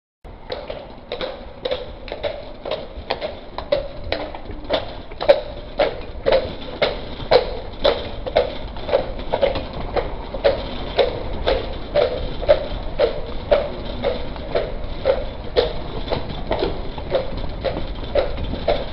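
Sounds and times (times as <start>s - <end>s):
horse hooves clip-clopping: 0.3s - 18.9s.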